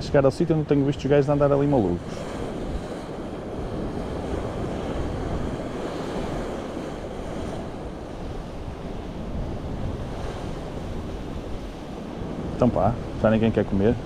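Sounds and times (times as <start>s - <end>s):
sea surf washing on shore: 0.0s - 14.0s
wind buffeting microphone: 0.0s - 14.0s.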